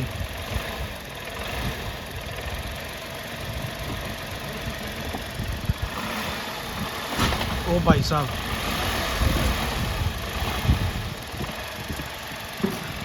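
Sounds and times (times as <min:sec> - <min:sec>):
engine knock: 0:00.0 - 0:08.6, 0:09.2 - 0:13.0
car engine revving: 0:00.0 - 0:13.0.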